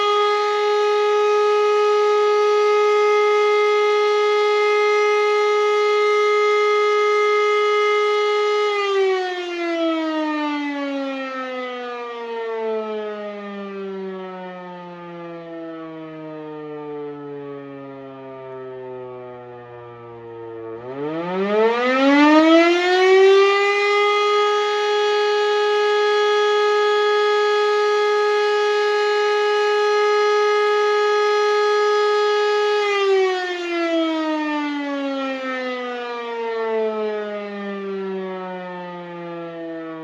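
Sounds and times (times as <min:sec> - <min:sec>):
electromechanical siren wailing: 0:00.0 - 0:40.0.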